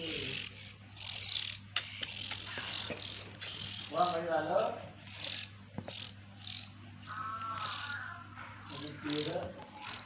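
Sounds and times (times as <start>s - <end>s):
bird chicks chirping: 0.0s - 10.0s.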